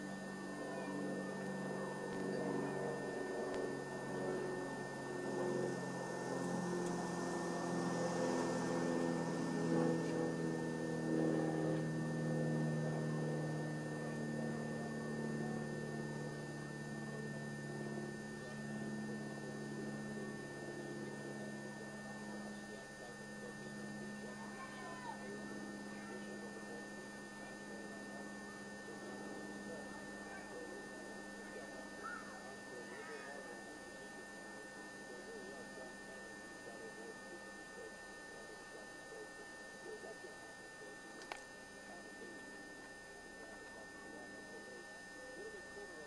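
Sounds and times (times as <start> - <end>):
high whine: 0.0 - 46.0.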